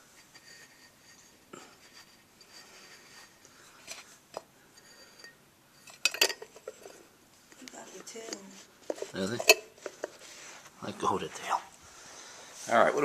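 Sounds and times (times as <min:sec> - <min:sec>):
faint scratching and rubbing: 0:00.0 - 0:05.4, 0:06.5 - 0:13.0.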